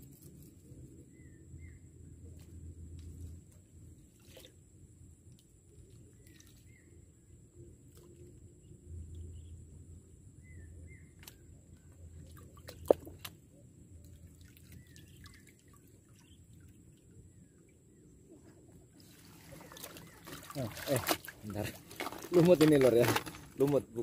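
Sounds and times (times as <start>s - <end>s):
faint low hum: 0.0s - 21.8s.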